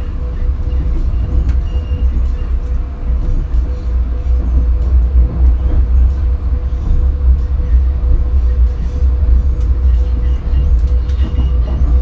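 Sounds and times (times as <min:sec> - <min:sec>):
constant hum tone: 0:00.0 - 0:12.0
train rumbling: 0:00.0 - 0:12.0.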